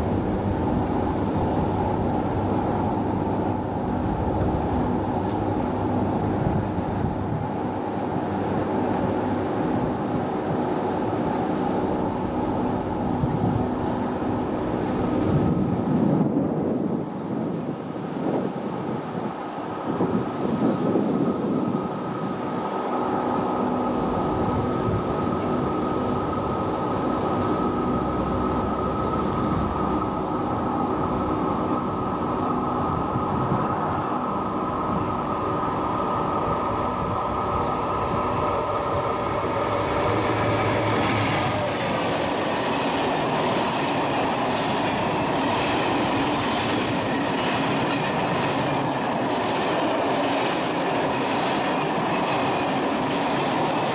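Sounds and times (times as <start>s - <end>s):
electric locomotive humming: 0.0s - 53.9s.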